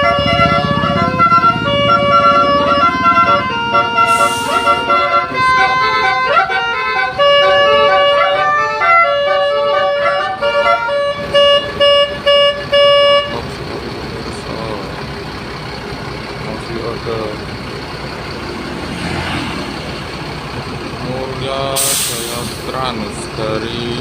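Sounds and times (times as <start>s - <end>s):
multi-tone bus horn jingle: 0.0s - 14.8s, 16.6s - 24.0s
steady vehicle noise: 0.0s - 24.0s.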